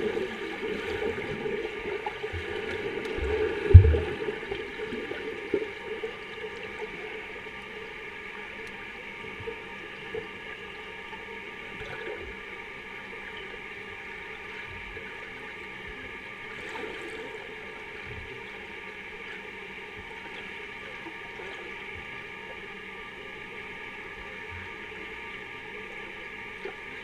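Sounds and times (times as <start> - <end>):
faint splashes and bubbling: 0.0 - 27.0
underwater hum and hiss: 0.0 - 27.0.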